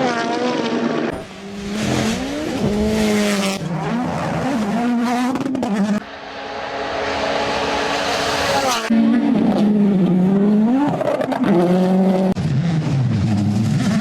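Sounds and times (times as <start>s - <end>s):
rally car engines revving: 0.0s - 14.0s.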